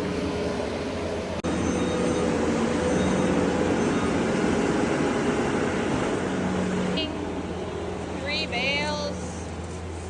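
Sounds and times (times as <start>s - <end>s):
farm machinery engine running: 0.0s - 10.0s.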